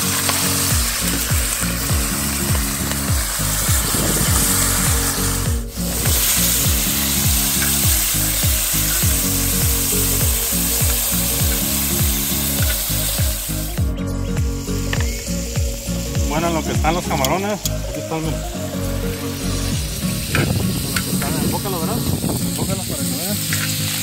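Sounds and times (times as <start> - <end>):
low thumping beat: 0.0 - 23.5
shrimp sizzling in oil: 0.0 - 24.0.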